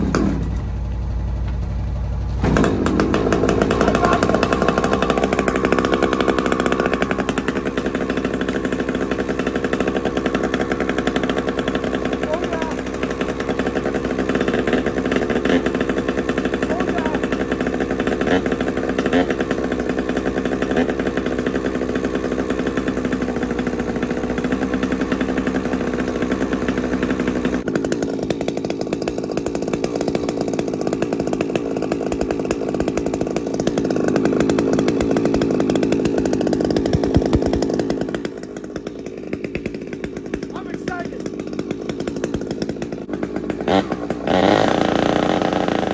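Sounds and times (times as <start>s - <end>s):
chainsaw engine running: 0.0s - 45.9s.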